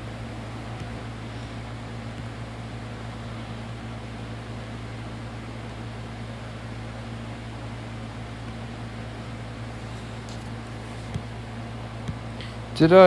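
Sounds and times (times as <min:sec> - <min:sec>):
steady low hum with hiss: 0:00.0 - 0:13.0.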